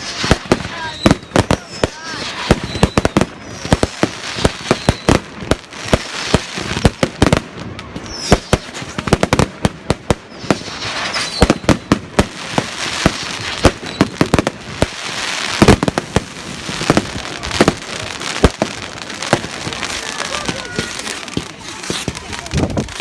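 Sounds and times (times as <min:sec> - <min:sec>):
crackling hiss: 0:00.0 - 0:23.0
fireworks bangs: 0:00.0 - 0:23.0.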